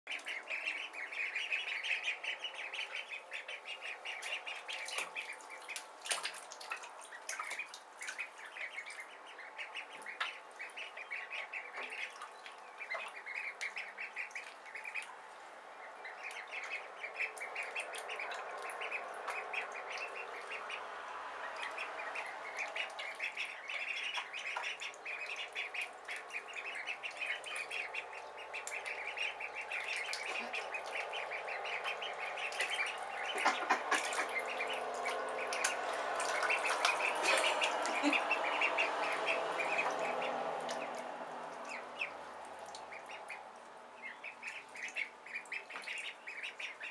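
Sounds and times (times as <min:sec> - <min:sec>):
ducklings peeping: 0:00.1 - 0:46.9.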